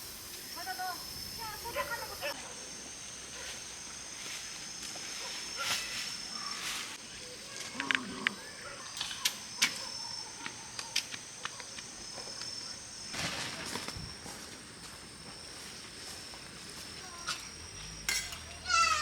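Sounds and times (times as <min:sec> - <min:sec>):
insect trilling: 0:00.0 - 0:13.2, 0:15.4 - 0:19.0.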